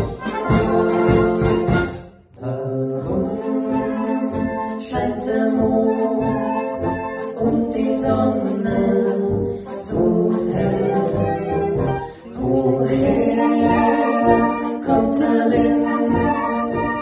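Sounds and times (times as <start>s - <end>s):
brass band playing polka: 0.0s - 2.3s, 3.0s - 17.0s
voices singing: 2.4s - 17.0s.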